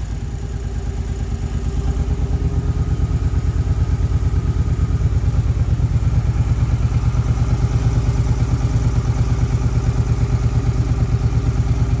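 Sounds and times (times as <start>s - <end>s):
engine ticking: 0.0s - 12.0s
motorcycle engine idling: 0.0s - 12.0s.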